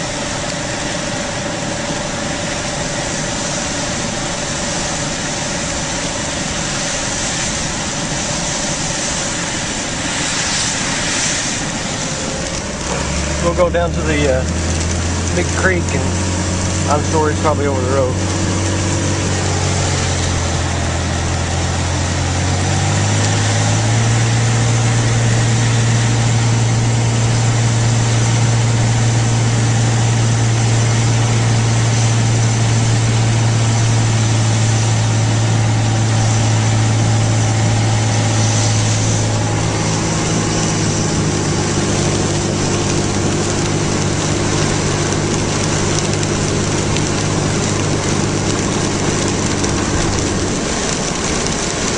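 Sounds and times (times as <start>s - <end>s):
car engine: 0.0s - 51.9s
road noise: 0.0s - 51.9s.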